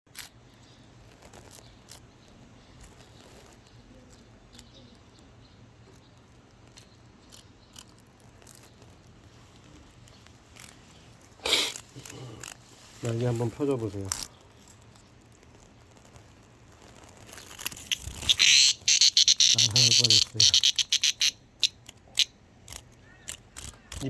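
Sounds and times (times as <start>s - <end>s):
crackling rustle: 0.1s - 24.0s
insect handling rustling: 0.1s - 24.0s.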